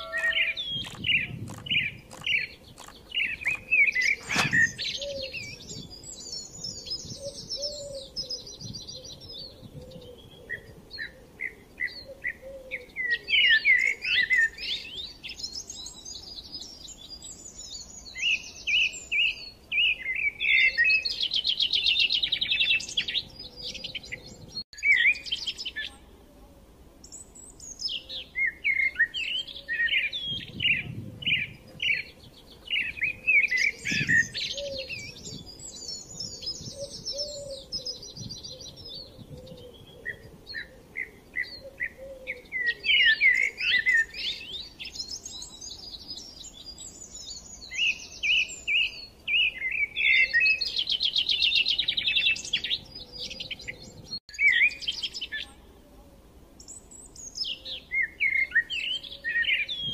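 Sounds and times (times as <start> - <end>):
birds chirping and twittering: 0.0 - 26.2, 27.0 - 55.9, 56.5 - 59.9.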